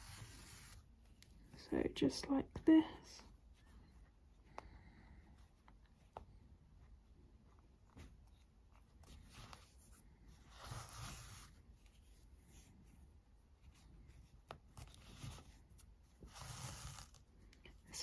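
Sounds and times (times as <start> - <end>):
faint rustle of yarn: 0.0 - 18.0
soft yarn swishes: 2.5 - 18.0.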